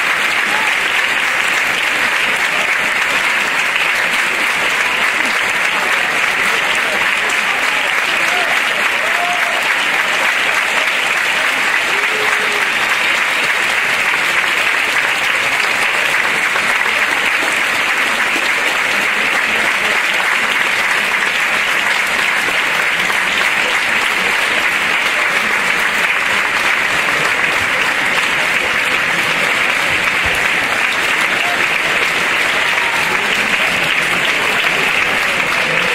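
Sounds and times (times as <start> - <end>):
audience applauding: 0.0 - 35.9.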